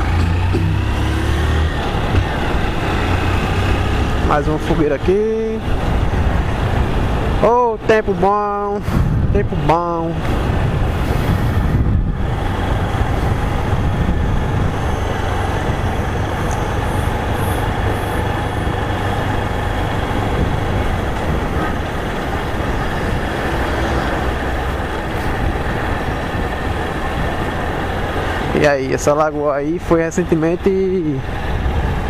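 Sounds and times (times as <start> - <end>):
road and wind noise: 0.0 - 32.0.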